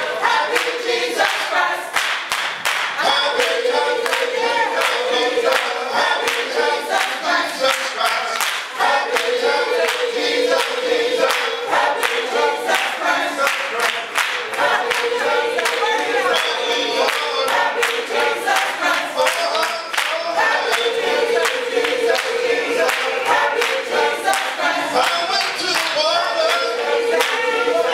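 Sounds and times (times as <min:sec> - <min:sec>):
choir singing: 0:00.0 - 0:02.2, 0:03.0 - 0:27.9
hands clapping in rhythm: 0:00.0 - 0:27.9.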